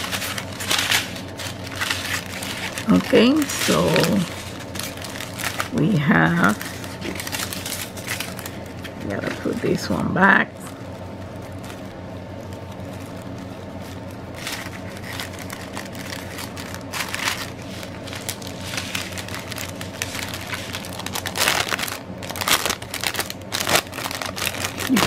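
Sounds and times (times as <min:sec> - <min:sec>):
plastic bags crinkling: 0:00.0 - 0:25.0
steady low hum: 0:00.0 - 0:25.0.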